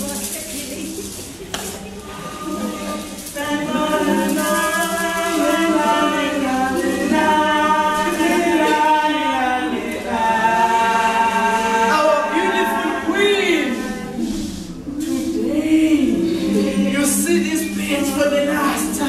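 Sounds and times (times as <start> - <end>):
group singing unaccompanied: 1.1 - 19.0.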